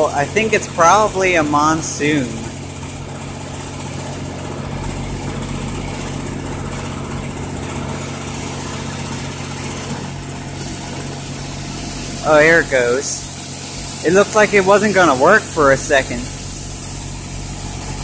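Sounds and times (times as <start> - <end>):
car wash spray hissing: 0.0 - 18.0
motor idling: 0.0 - 18.0.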